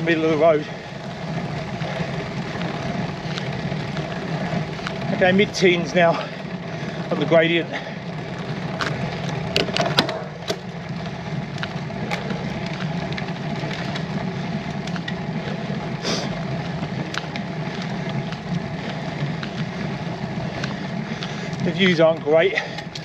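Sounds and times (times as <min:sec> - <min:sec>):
bicycle clicks and crackles on gravel: 0:00.0 - 0:23.0.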